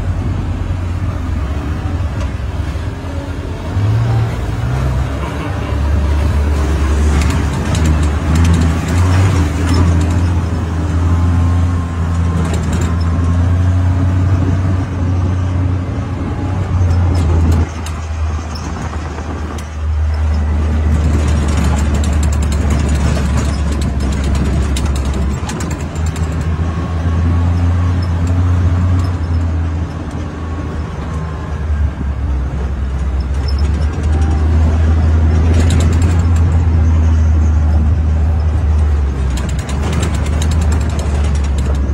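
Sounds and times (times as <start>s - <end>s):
utility vehicle engine running: 0.0s - 41.9s
knocks and rattles: 4.7s - 14.6s, 16.6s - 41.9s.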